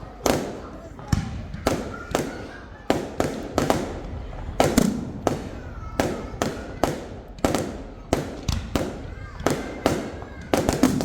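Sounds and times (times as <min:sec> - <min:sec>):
fireworks bangs: 0:00.0 - 0:11.0
rumbling echo: 0:00.0 - 0:11.0.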